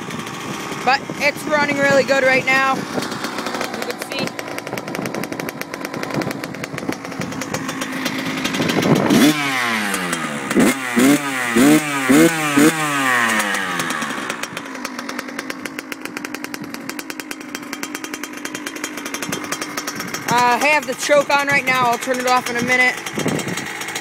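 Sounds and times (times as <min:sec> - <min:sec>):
two-stroke motorcycle engine revving: 0:00.0 - 0:24.0.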